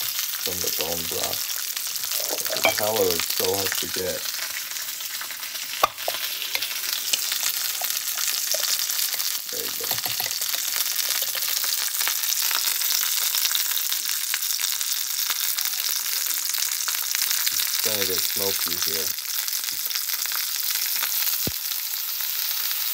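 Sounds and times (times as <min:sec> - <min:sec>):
fat sizzling in a frying pan: 0:00.0 - 0:22.9.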